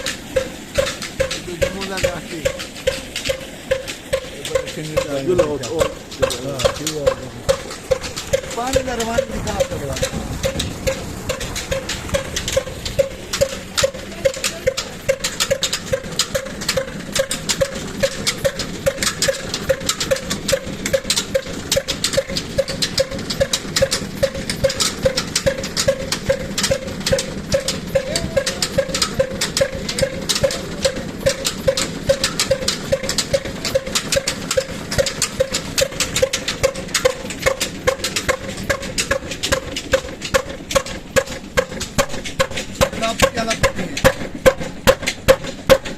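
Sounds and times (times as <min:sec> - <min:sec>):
diesel engine knocking: 0:00.0 - 0:45.9.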